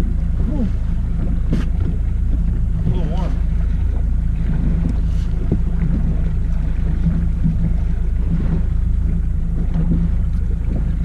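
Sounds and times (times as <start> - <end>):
boat motor droning: 0.0 - 11.0.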